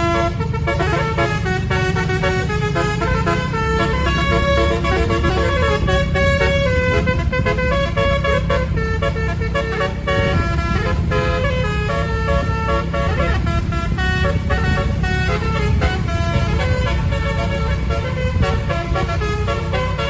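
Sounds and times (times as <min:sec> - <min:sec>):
bus musical horn tune: 0:00.0 - 0:20.0
bus rumble: 0:00.0 - 0:20.0.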